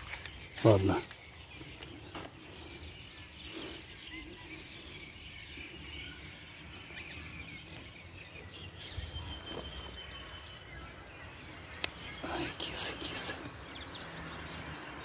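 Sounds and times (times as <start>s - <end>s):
faint outdoor background noise: 0.0s - 15.0s
small birds chirping: 0.0s - 15.0s.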